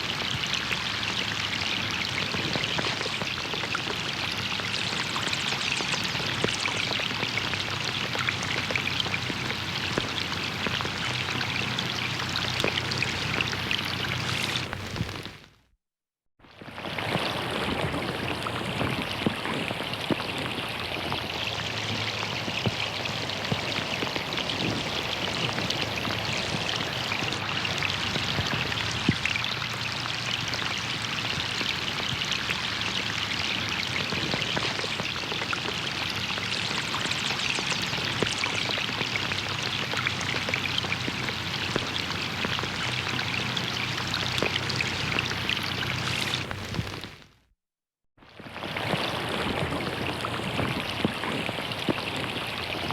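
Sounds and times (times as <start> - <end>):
rain falling on a pond: 0.0 - 15.6, 16.5 - 47.4, 48.2 - 52.9.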